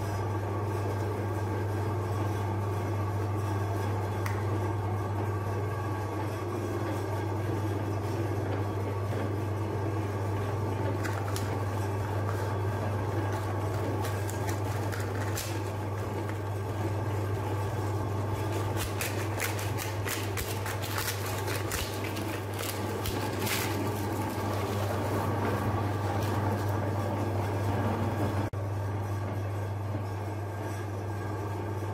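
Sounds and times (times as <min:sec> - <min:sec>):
meat grinder motor humming: 0:00.0 - 0:28.5.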